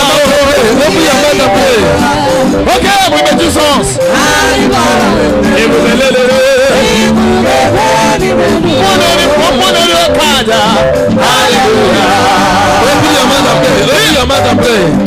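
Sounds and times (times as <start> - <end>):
church worship music: 0.0 - 15.0
man singing: 0.0 - 15.0.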